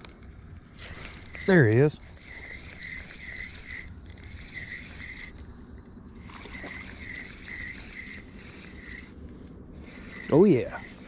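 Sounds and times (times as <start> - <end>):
fishing reel whirring: 0.7 - 11.0.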